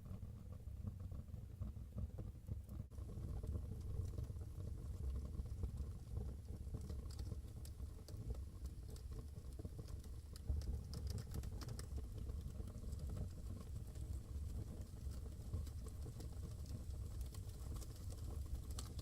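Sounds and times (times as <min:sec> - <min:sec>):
fire crackling and popping: 0:00.1 - 0:19.0.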